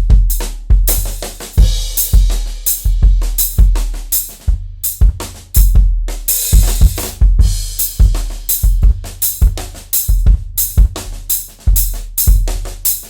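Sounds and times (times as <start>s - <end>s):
acoustic drum kit groove: 0.0s - 13.0s.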